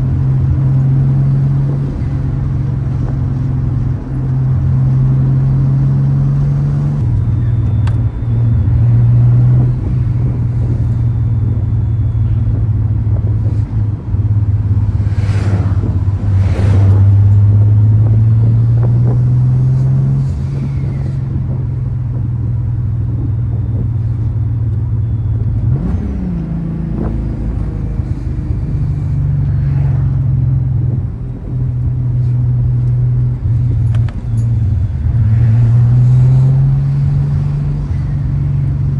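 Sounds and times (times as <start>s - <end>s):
car engine and exhaust running: 0.0s - 38.9s.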